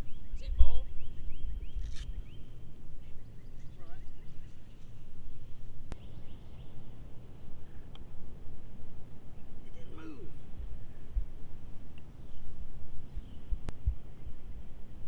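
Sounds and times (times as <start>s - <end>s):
birds chirping: 0.0s - 14.8s
wind rumble on microphone: 0.0s - 15.0s.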